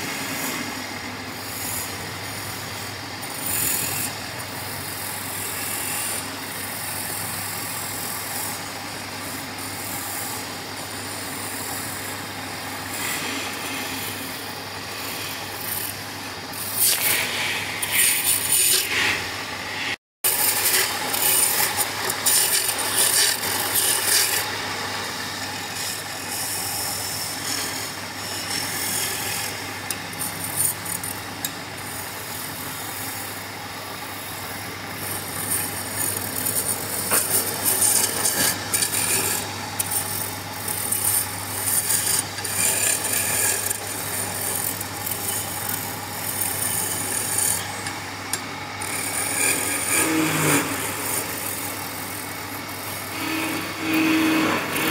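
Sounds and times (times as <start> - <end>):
lathe motor hum: 0.0 - 54.9
turning tool scraping wood: 4.8 - 19.3, 20.3 - 54.9.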